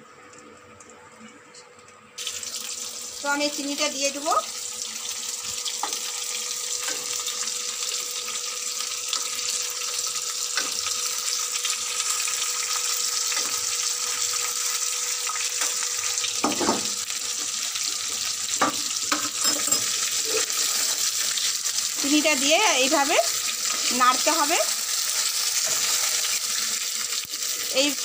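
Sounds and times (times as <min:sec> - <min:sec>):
fruit sizzling in a pan: 0:02.2 - 0:28.0.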